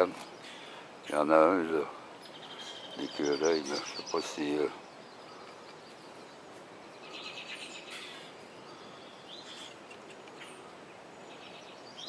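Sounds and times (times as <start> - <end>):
faint background noise: 0.0 - 12.0
small birds chirping: 0.0 - 12.0.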